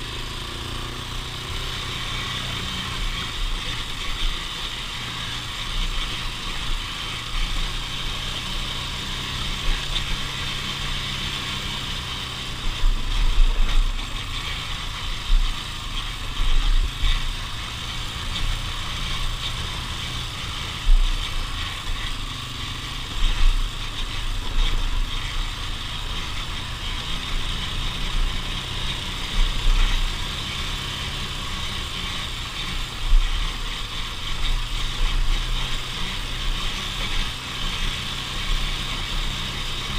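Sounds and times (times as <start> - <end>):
off-road vehicle engine hum: 0.0 - 39.9.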